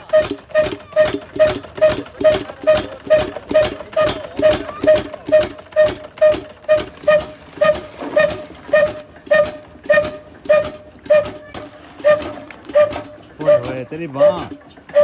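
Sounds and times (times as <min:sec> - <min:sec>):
stationary engine metallic beat: 0:00.0 - 0:15.0.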